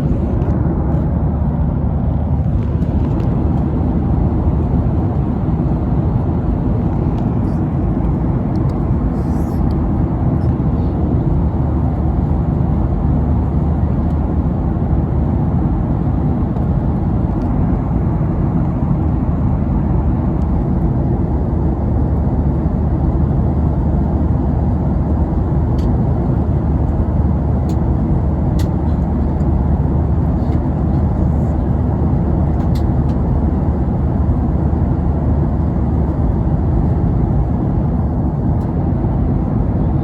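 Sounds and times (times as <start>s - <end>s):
airliner cabin drone: 0.0s - 40.0s.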